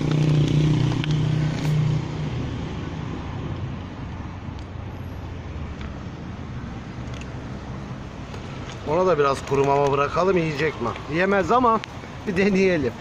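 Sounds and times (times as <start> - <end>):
street traffic rumble: 0.0 - 13.0
vehicle engine humming: 0.0 - 13.0.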